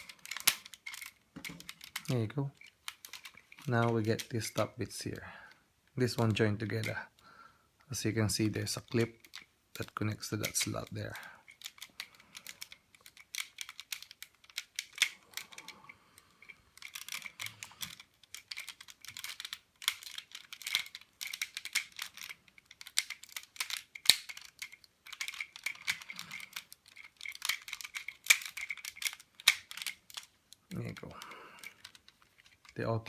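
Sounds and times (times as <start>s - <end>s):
plastic toy parts clicking: 0.0s - 5.3s, 6.1s - 7.0s, 8.4s - 33.0s.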